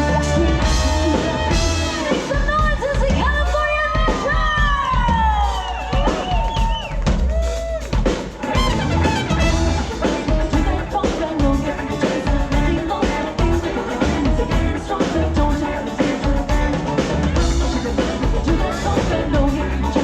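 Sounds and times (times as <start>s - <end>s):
live latin pop band: 0.0s - 20.0s
steady drum beat: 0.0s - 20.0s.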